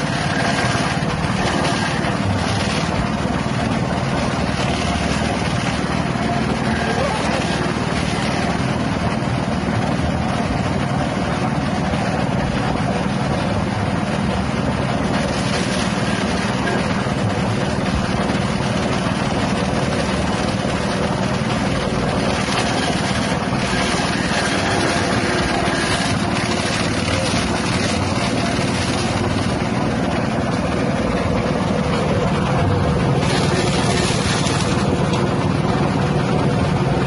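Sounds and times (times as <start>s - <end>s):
small petrol engine running: 0.0s - 37.0s.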